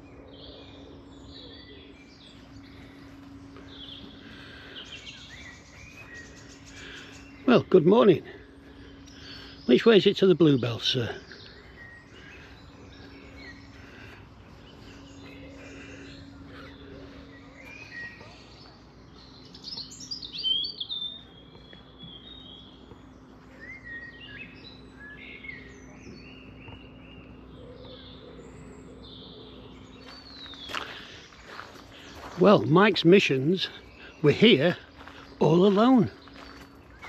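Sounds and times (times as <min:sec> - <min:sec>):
faint low hum: 0:00.0 - 0:37.0
songbirds singing and calling: 0:00.0 - 0:37.0.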